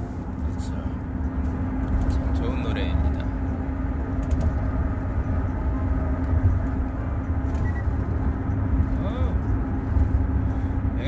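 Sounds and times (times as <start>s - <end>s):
car rumble from inside cabin: 0.0s - 11.0s
constant low hum: 0.0s - 11.0s.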